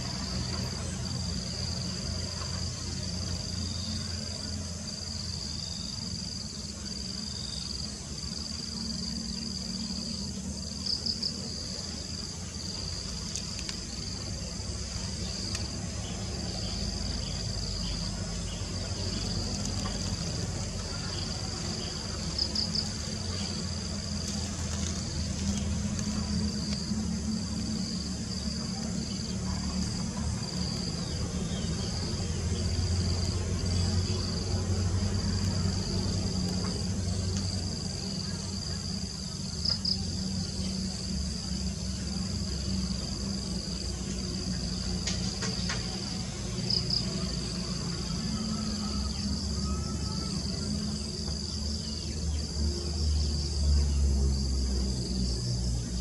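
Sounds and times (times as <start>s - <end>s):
insect chirps: 0.0s - 56.0s
insect trill: 0.0s - 56.0s.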